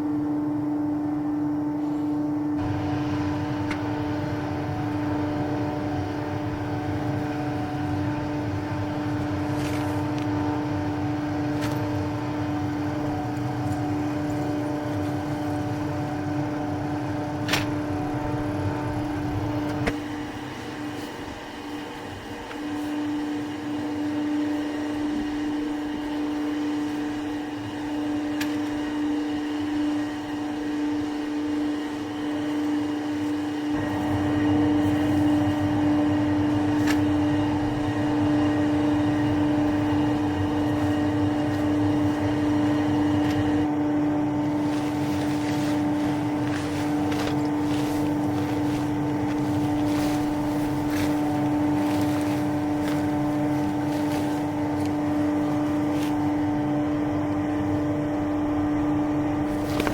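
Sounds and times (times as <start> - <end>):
steady mechanical drone: 0.0 - 59.9.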